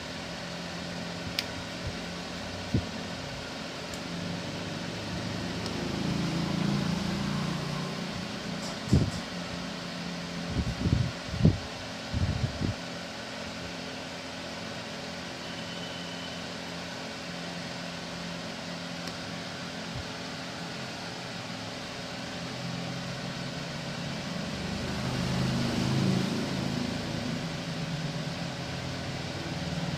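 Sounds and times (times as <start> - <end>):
mechanical hum and hiss: 0.0 - 29.9.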